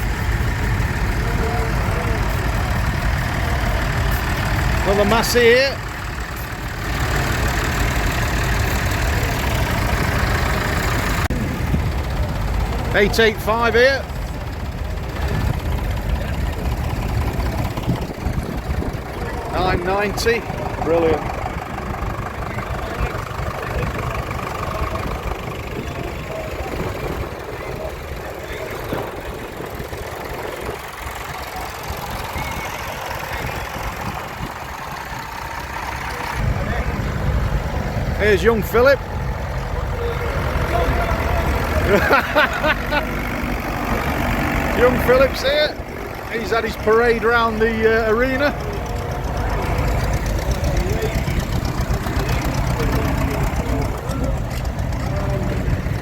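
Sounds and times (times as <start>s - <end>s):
outdoor crowd hubbub: 0.0s - 56.0s
tractor engine idling: 0.0s - 56.0s.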